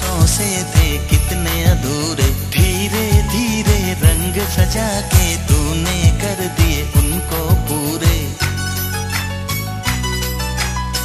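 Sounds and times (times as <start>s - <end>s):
steady percussion beat: 0.0s - 9.0s.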